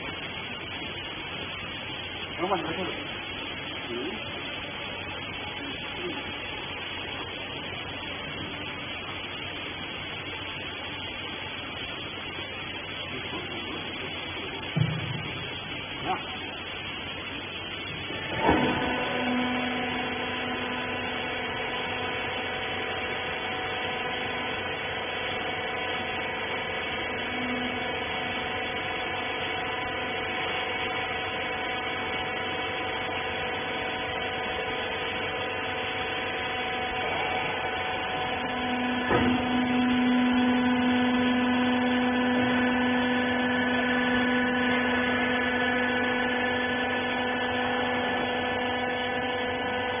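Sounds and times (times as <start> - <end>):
electric motor and pump humming: 0.0 - 50.0.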